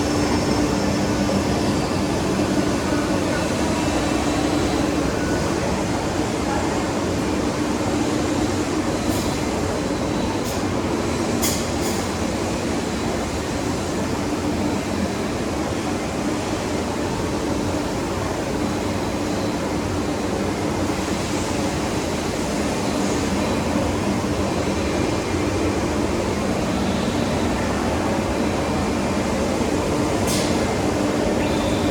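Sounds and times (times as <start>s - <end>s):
lathe humming and whirring: 0.0s - 31.9s.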